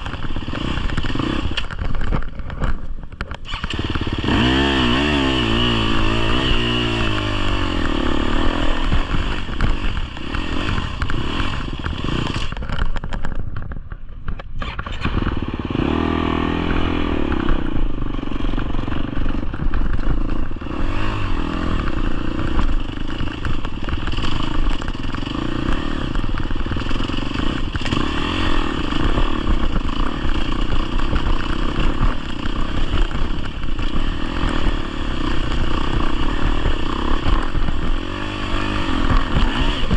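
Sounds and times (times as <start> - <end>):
dirt bike engine revving: 0.0 - 2.8, 3.4 - 13.0, 14.6 - 39.9.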